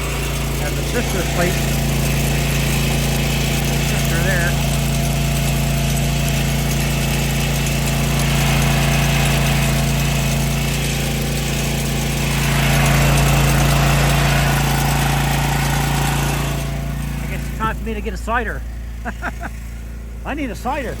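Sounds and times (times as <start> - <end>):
welding generator engine running: 0.0 - 21.0.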